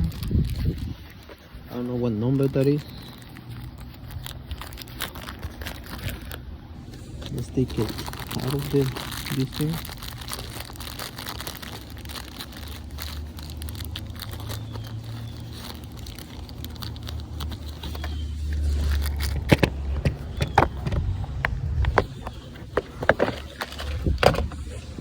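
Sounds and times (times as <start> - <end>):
low steady rumble: 0.0 - 25.0
packaging clicks and crackles: 0.0 - 25.0.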